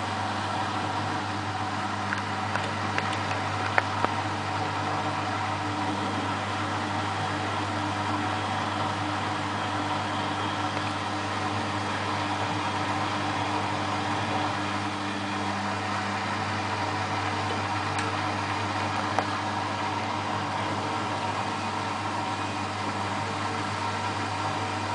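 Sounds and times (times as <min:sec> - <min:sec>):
washing machine humming: 0:00.0 - 0:24.9.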